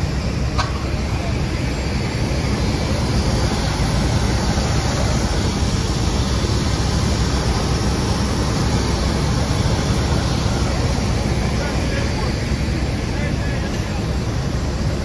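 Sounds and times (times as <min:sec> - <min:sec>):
loud rushing machinery noise: 0:00.0 - 0:15.0.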